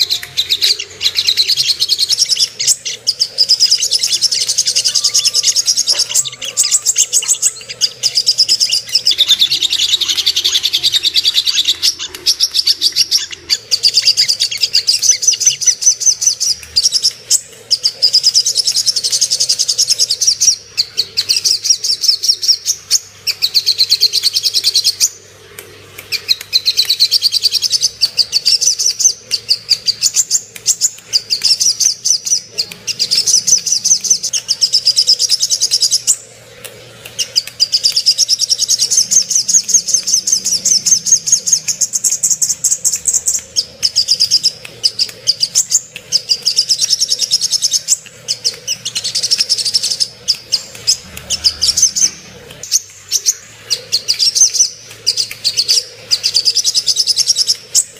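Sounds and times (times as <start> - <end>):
bird chattering trills: 0.0 - 25.2, 26.1 - 57.9.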